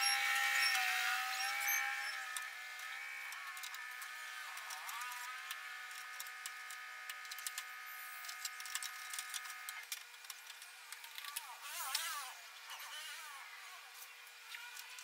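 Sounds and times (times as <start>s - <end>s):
steady whining hum: 0.0s - 15.0s.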